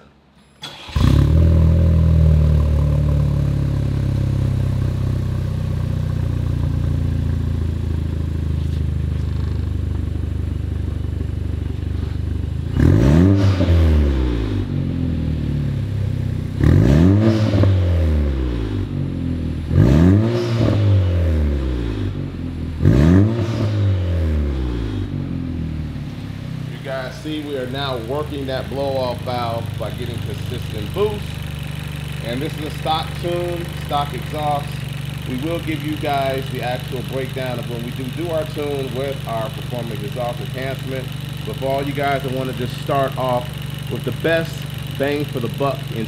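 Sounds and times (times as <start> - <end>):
car engine starting and idling: 0.1 - 46.0
engine revving: 0.6 - 46.0.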